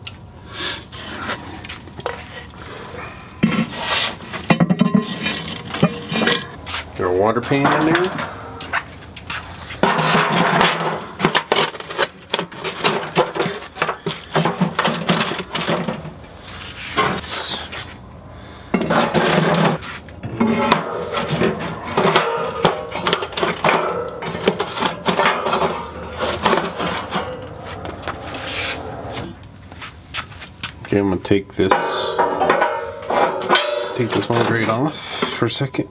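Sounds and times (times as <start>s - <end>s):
metal grill parts clattering: 1.2s - 17.6s, 18.6s - 29.4s, 31.6s - 35.8s.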